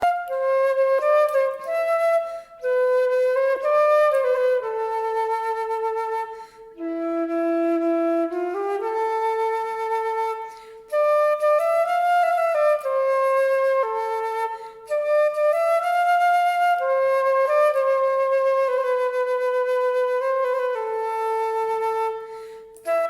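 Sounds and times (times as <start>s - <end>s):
flute playing slow melody: 0.0s - 23.0s.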